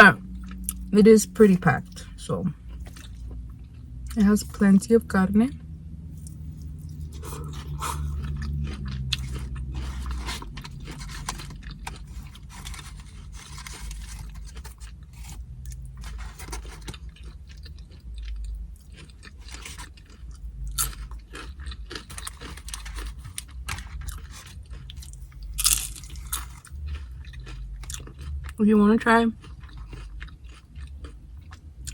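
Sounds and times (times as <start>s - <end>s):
tortilla chips crunching: 2.0s - 4.2s, 6.2s - 28.6s, 29.4s - 31.9s.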